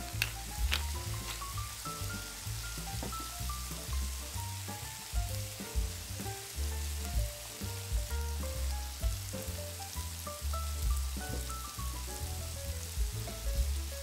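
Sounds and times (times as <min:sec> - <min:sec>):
background music with bass line: 0:00.0 - 0:14.0
shrimp sizzling in a pan: 0:00.0 - 0:14.0.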